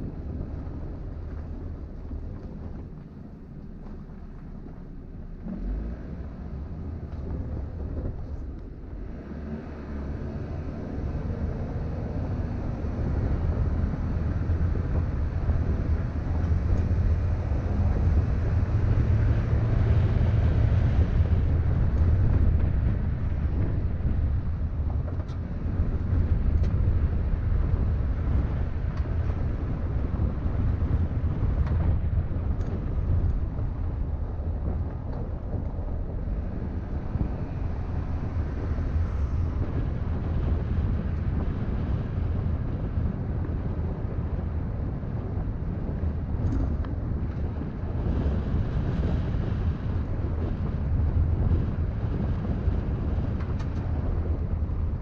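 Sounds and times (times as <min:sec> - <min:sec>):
vehicle rumbling on dirt road: 0:00.0 - 0:55.0.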